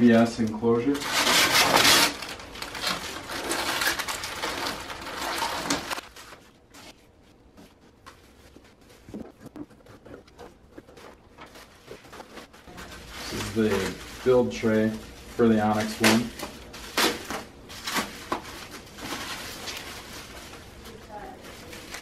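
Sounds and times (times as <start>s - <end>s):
plastic bag crinkling: 1.0s - 7.1s, 8.2s - 22.0s.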